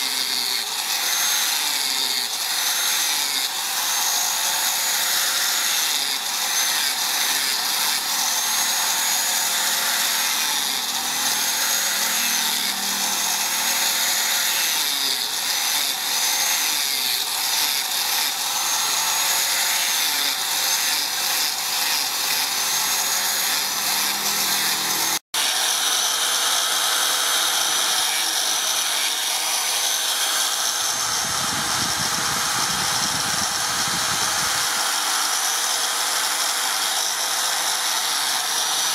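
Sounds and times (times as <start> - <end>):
angle grinder sanding wood: 0.0 - 38.9.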